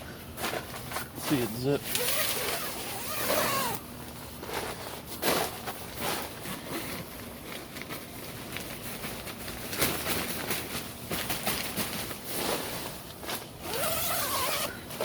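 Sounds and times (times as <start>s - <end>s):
tent fabric rustling and scraping: 0.4s - 3.8s, 4.4s - 15.0s.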